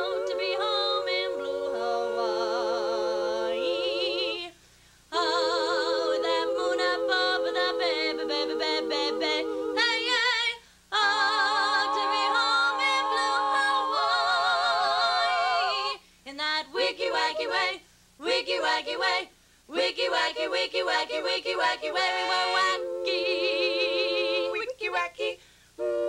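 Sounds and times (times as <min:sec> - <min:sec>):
female quartet singing a cappella: 0:00.0 - 0:26.0.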